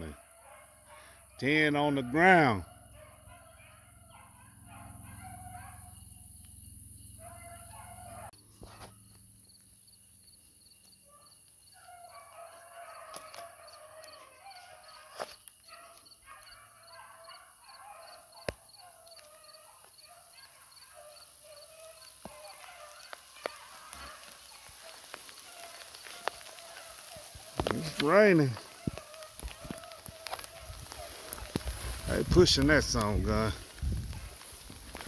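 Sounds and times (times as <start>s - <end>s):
hounds baying: 0.0s - 6.3s, 7.1s - 8.3s, 11.1s - 35.0s.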